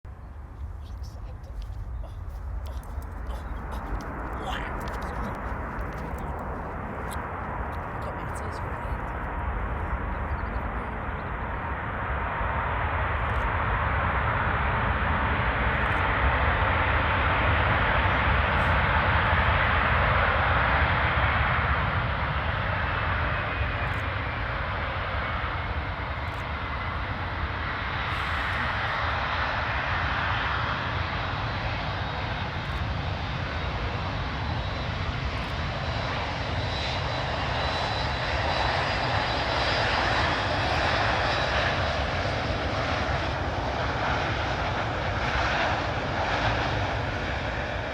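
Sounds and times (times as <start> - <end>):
jet engines rushing: 0.2 - 47.9.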